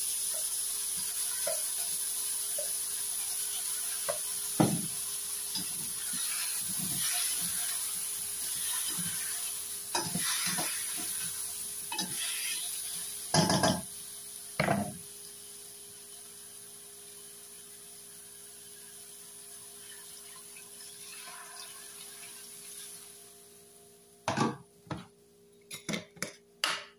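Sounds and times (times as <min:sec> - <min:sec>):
chicken and onion sizzling: 0:00.0 - 0:24.4.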